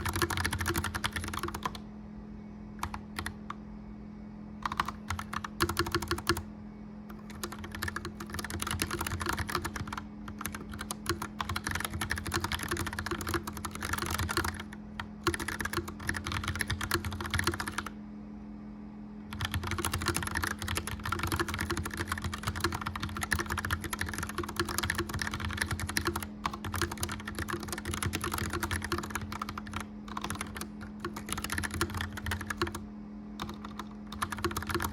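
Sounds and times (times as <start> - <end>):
mechanical keyboard typing: 0.0 - 1.8, 2.8 - 3.5, 4.6 - 6.4, 7.1 - 17.9, 19.3 - 32.8, 33.4 - 34.9
fireplace fan humming: 0.0 - 34.9.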